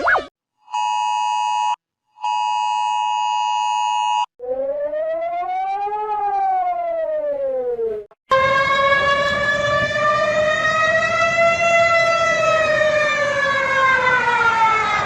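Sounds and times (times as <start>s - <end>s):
siren rising and falling: 0.0s - 15.0s.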